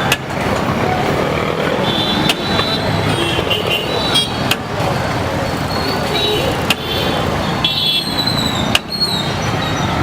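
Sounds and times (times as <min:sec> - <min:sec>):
motor traffic: 0:00.0 - 0:10.0.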